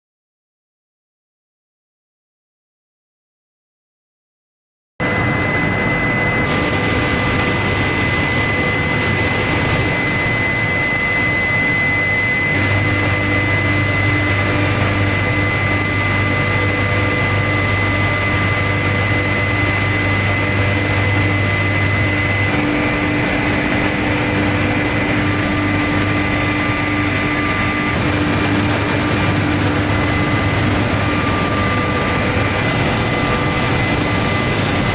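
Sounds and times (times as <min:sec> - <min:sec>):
induction heating machine whining: 0:05.0 - 0:34.9.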